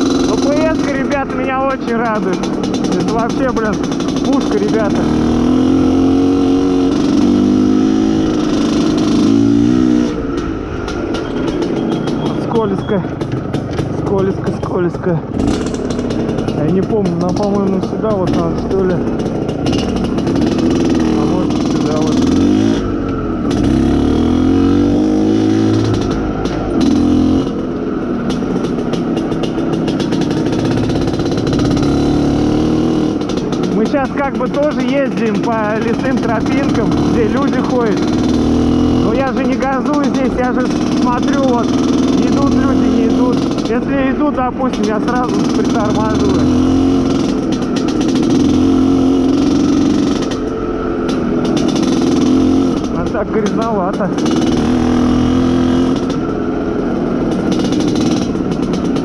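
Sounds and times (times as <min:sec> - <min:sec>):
two-stroke motorcycle engine running: 0:00.0 - 0:59.0.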